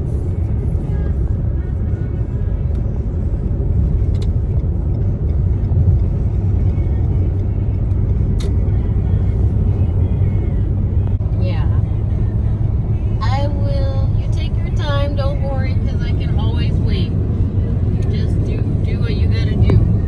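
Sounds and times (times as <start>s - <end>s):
road and engine rumble: 0.0s - 20.0s.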